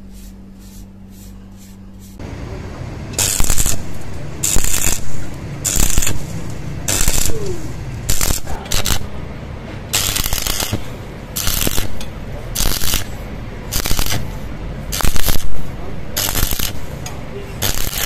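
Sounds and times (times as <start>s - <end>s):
welding arc crackling: 2.1s - 18.0s.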